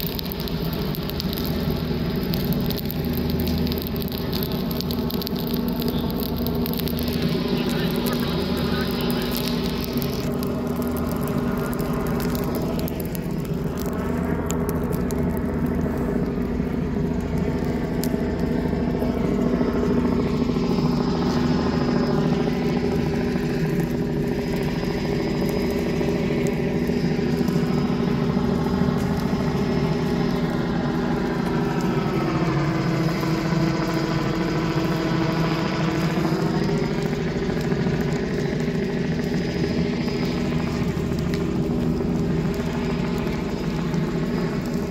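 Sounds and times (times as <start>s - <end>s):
helicopter hovering: 0.0s - 44.9s.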